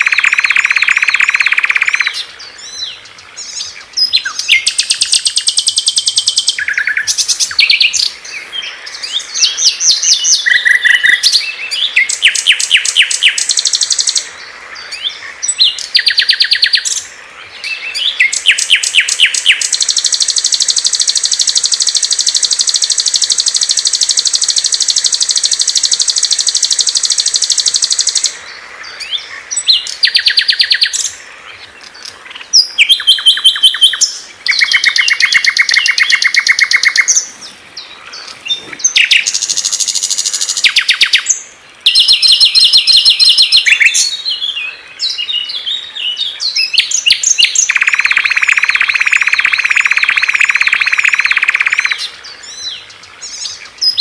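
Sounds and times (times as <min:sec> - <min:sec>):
songbirds trilling: 0:00.0 - 0:54.0.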